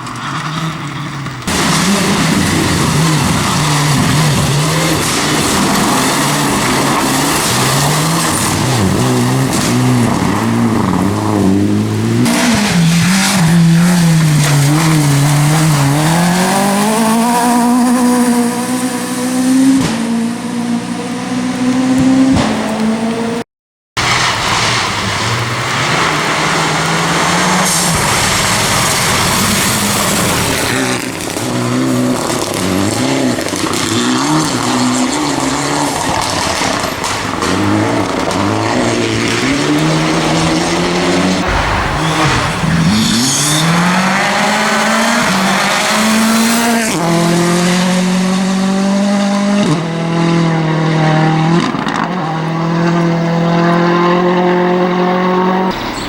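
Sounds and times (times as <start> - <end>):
rally car engines revving: 0.0 - 23.4, 24.0 - 56.0.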